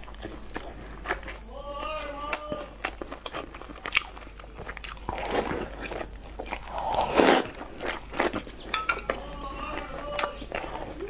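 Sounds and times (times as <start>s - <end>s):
biting and chewing food: 0.0s - 11.0s.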